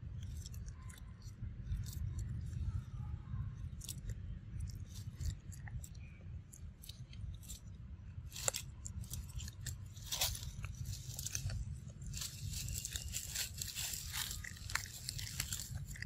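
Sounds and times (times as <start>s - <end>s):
low steady rumble: 0.0s - 16.0s
monkey chewing fruit: 0.0s - 16.0s.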